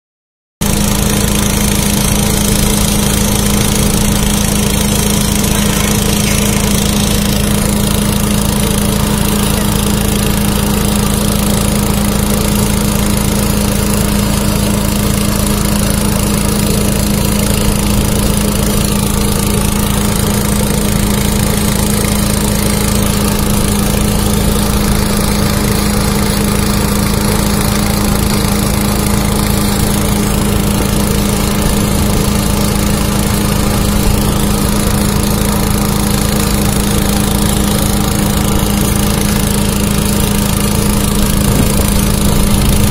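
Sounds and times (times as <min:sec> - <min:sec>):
small engine running steadily: 0:00.6 - 0:42.9.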